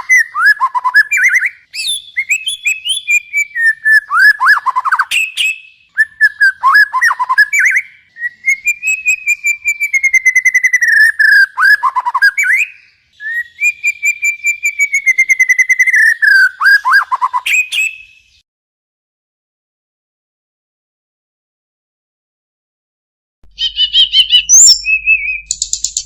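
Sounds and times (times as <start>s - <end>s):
songbird trilling: 0.1s - 18.4s, 23.5s - 26.0s.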